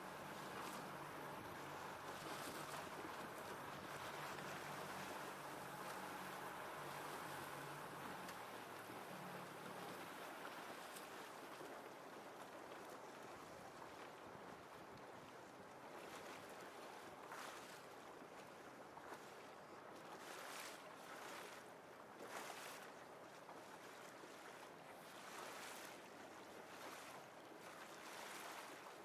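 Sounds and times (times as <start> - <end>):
rush of water: 0.0 - 29.0
wind: 0.0 - 29.0.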